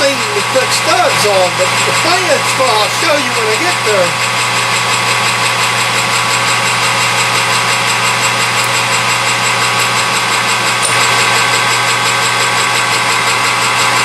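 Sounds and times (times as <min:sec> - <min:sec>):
metal lathe humming: 0:00.0 - 0:14.0.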